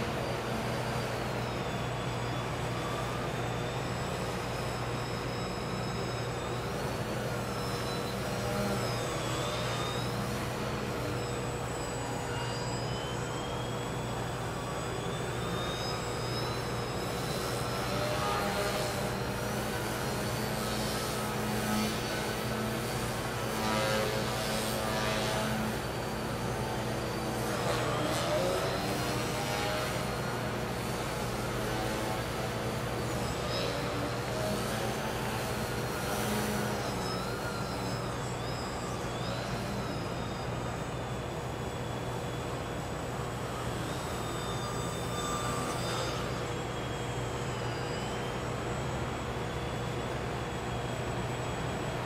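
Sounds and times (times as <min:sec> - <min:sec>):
model plane motor whining: 0:00.0 - 0:51.8.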